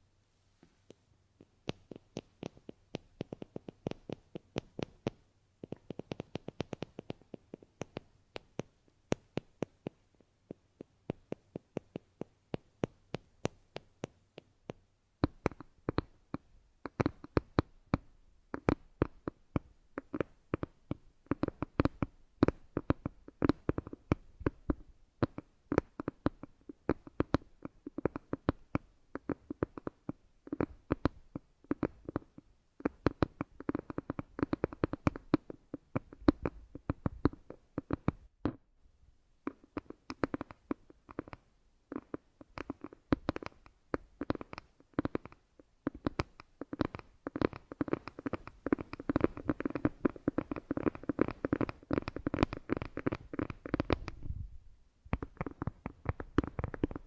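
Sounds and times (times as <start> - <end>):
rapid tapping and clicking: 1.4 - 38.6, 39.5 - 54.4, 55.1 - 57.0.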